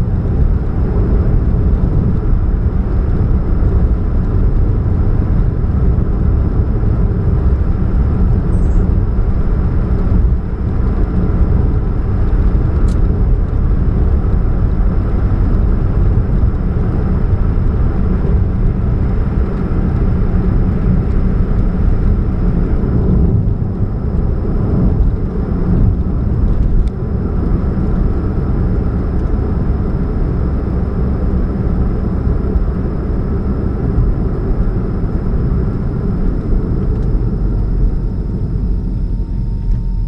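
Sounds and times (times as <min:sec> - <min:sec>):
car engine low rumble and hum: 0:00.0 - 0:40.0.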